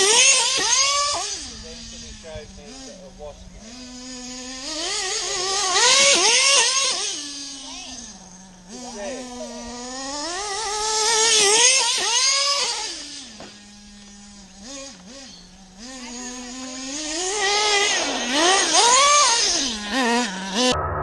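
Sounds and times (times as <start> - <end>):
small glow engine revving: 0.0 - 21.0.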